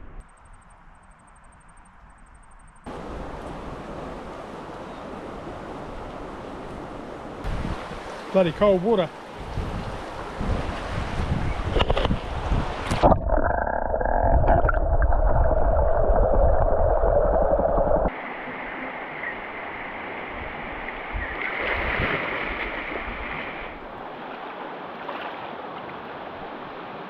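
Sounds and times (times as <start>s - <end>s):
mountain stream running water: 2.9s - 27.0s.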